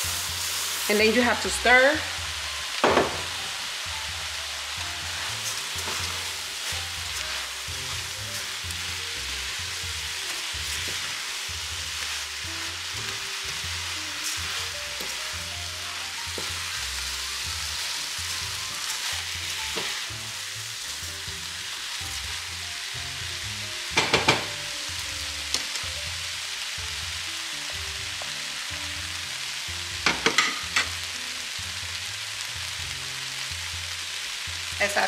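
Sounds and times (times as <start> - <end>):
frying sizzle: 0.0 - 35.0.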